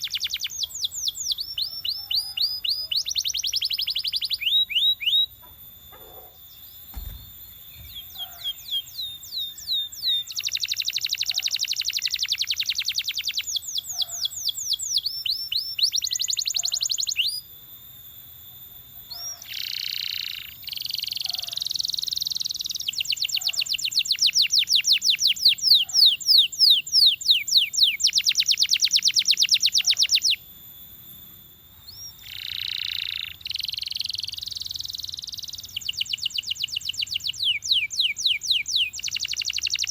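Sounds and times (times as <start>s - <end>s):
canary singing trills: 0.0s - 17.5s, 18.5s - 39.9s.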